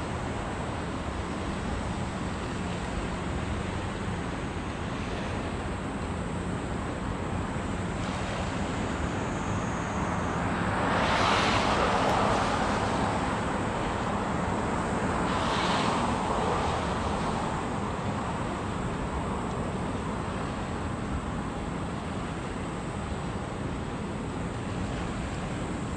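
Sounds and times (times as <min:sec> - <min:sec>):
wind and water noise: 0:00.0 - 0:25.9.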